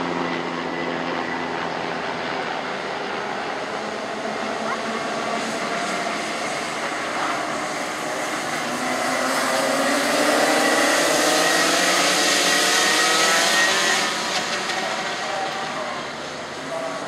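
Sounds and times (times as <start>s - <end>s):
kart engines at high revs: 2.6s - 17.0s.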